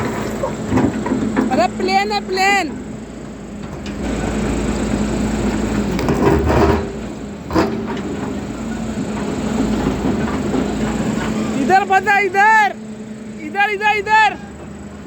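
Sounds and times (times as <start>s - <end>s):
excavator diesel engine: 0.0s - 15.0s.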